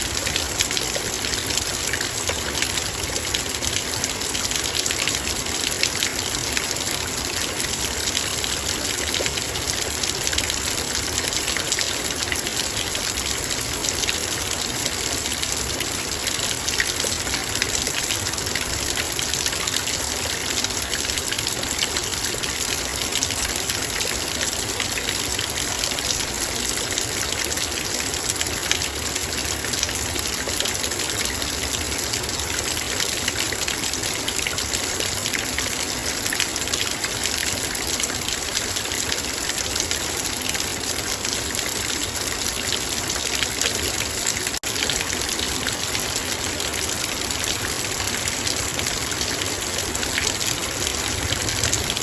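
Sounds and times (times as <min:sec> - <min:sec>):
rain on a metal bowl: 0:00.0 - 0:52.0.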